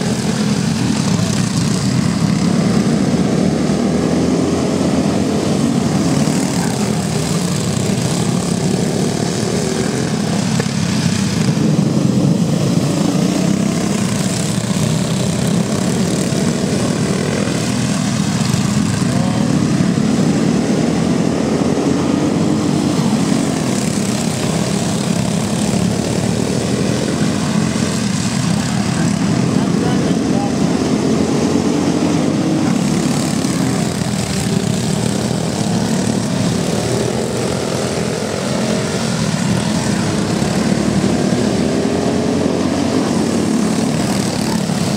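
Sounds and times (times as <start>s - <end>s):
go-kart engines racing: 0.0s - 44.9s.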